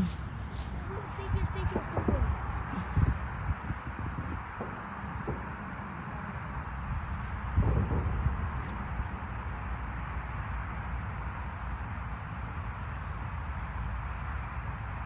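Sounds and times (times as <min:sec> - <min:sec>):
outdoor background rumble and hiss: 0:00.0 - 0:15.0.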